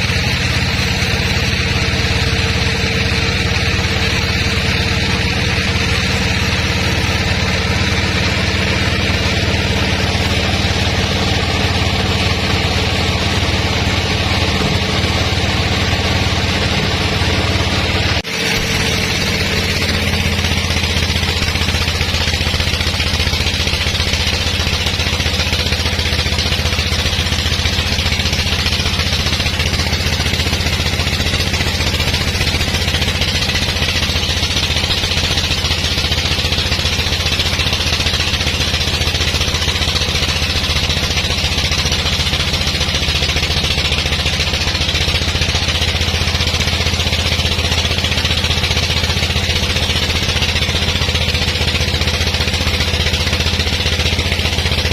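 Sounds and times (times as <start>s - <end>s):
sawmill engine hum: 0.0s - 54.9s.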